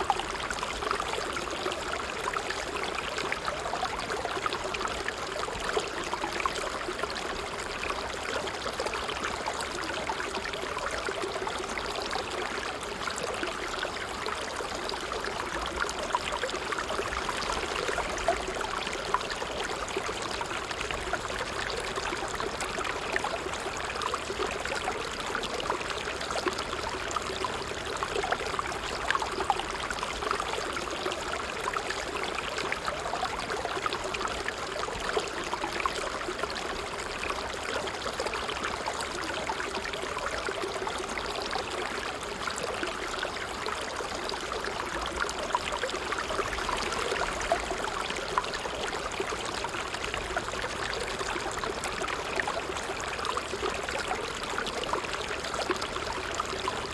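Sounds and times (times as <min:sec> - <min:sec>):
stream water trickling and splashing: 0:00.0 - 0:56.9.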